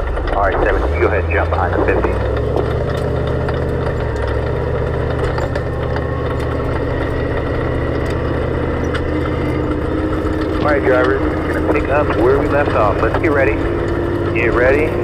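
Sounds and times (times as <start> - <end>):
race car engine running: 0.0 - 15.0.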